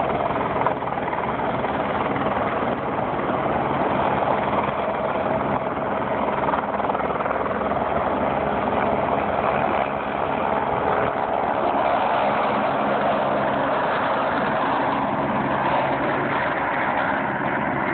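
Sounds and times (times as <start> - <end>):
helicopter flying low: 0.0 - 17.9.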